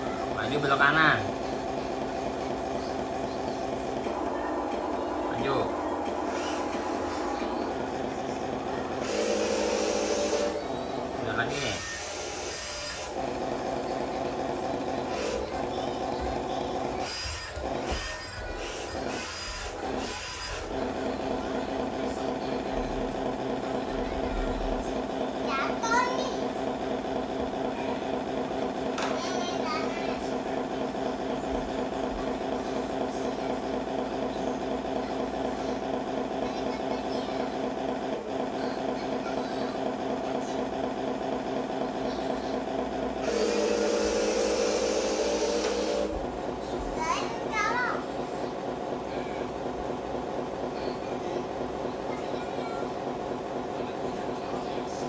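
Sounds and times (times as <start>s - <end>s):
model truck humming drone: 0.0s - 25.5s, 26.1s - 55.0s.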